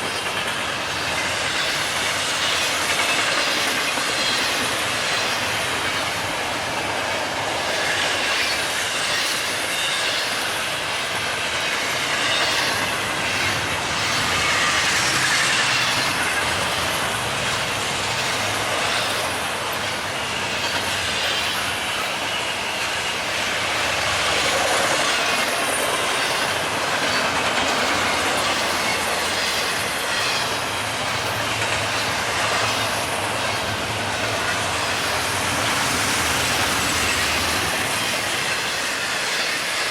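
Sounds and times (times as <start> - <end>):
train wheels rushing on rail: 0.0 - 39.9
wheels clicking over rail joints: 0.0 - 39.9.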